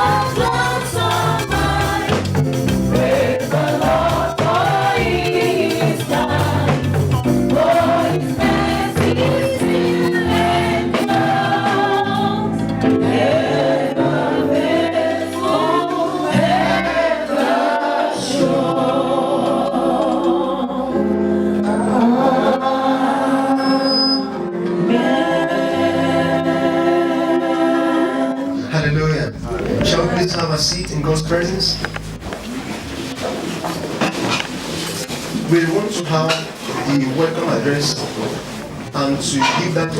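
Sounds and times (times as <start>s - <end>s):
backing music: 0.0s - 39.9s
choir singing gospel: 0.0s - 39.9s.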